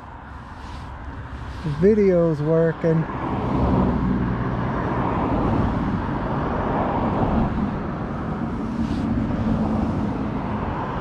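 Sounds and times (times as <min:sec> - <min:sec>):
cars passing on road: 0:00.0 - 0:11.0.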